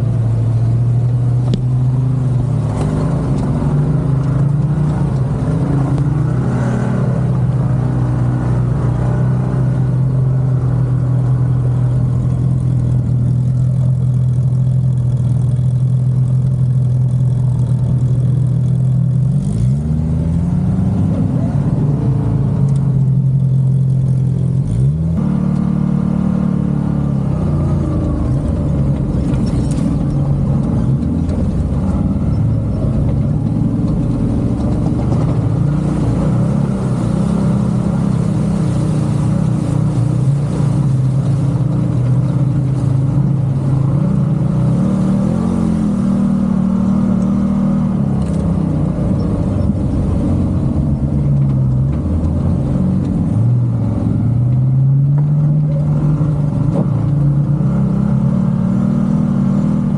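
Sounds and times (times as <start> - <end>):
rumbling road noise: 0.0 - 59.9
vehicle engine running: 0.0 - 59.9.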